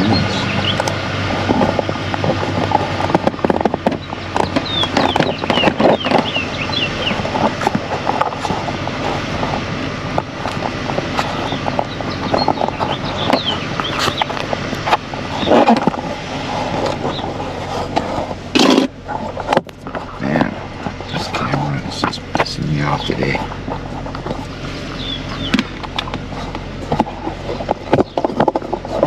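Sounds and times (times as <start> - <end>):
engine knocks and rattles: 0.0 - 29.0
pickup engine humming: 0.0 - 29.0.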